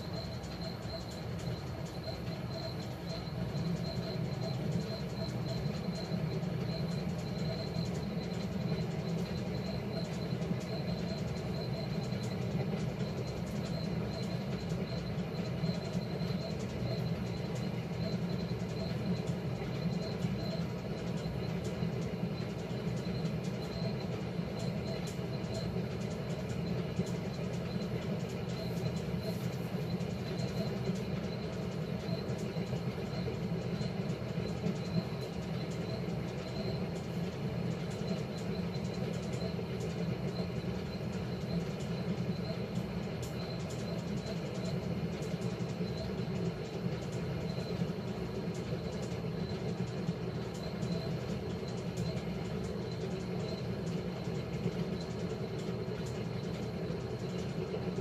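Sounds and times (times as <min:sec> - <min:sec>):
washing machine motor humming: 0:00.0 - 0:58.0.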